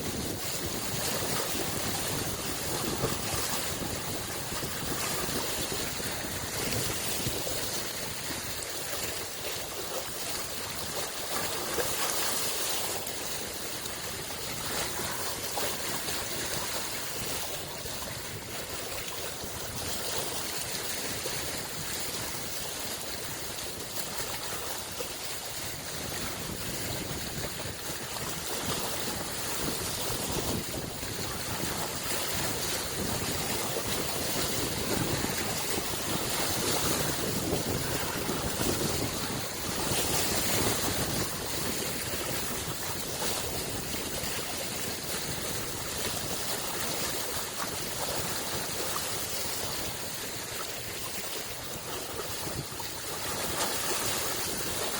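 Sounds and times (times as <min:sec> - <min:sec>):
small lake waves washing: 0:00.0 - 0:54.9.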